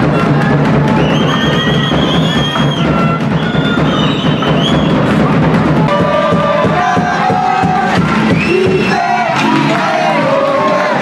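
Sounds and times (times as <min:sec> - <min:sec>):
music with percussive beat: 0:00.0 - 0:11.0.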